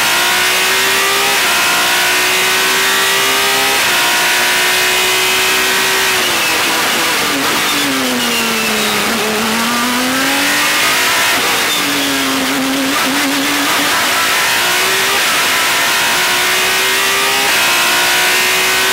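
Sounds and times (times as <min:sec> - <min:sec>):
racing car engine: 0:00.0 - 0:18.9.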